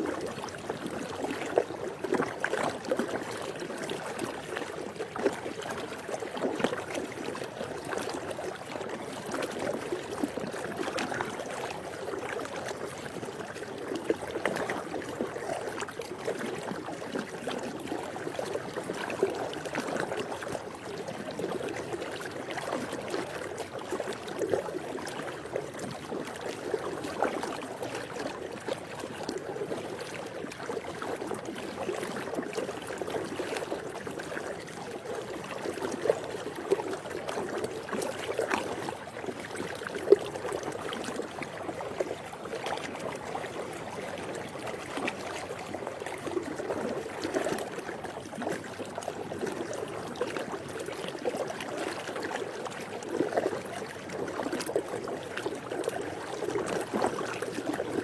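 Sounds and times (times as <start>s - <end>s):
pool water splashing: 0.0s - 58.0s.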